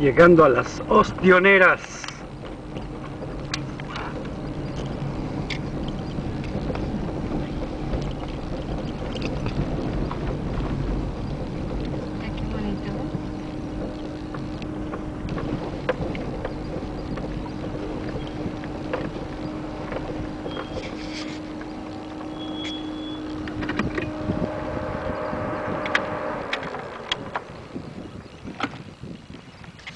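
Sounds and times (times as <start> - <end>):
vehicle engine humming: 0.0 - 29.9
wind noise: 0.0 - 29.9.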